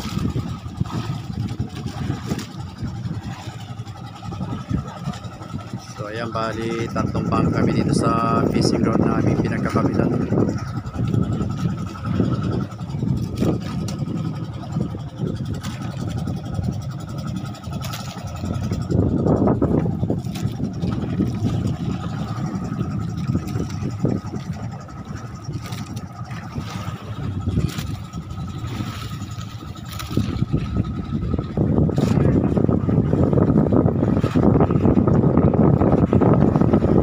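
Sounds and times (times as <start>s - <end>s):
boat engine rumbling: 0.0s - 37.0s.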